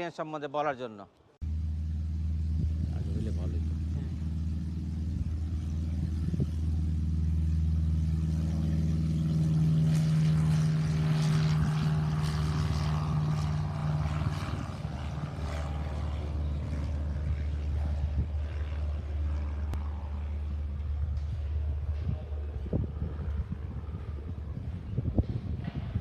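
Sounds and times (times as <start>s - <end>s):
engine low hum: 1.4s - 26.0s.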